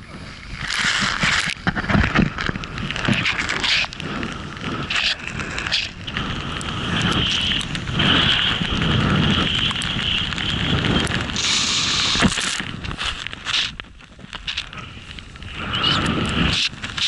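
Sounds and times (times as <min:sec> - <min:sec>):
snowboard sliding through powder: 0:00.0 - 0:17.0
wind rumbling on microphone: 0:00.0 - 0:17.0.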